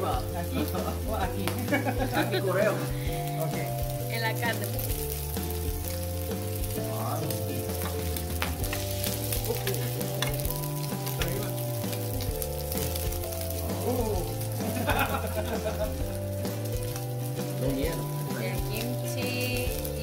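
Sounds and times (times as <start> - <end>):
meat sizzling in a grill pan: 0.0 - 20.0.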